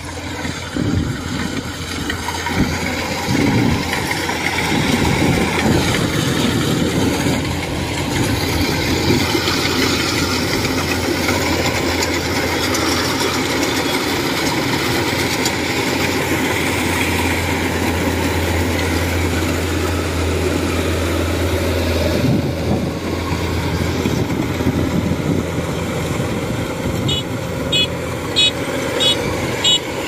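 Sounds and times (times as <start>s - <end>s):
combine harvester droning: 0.0s - 30.0s.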